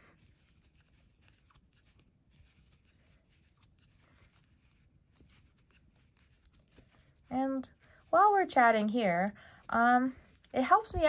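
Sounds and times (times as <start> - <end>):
crochet hook and yarn scratching: 0.0 - 11.0.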